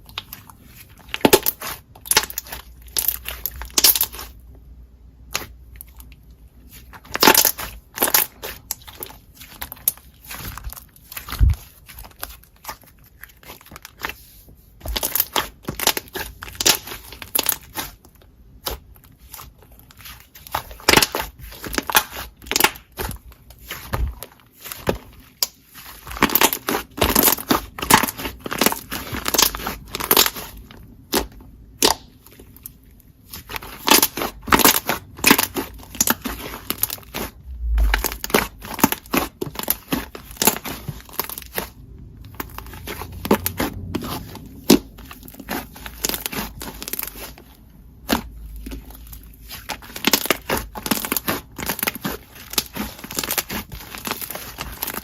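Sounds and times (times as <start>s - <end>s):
slime crunching and popping: 0.0s - 4.5s, 5.1s - 55.0s.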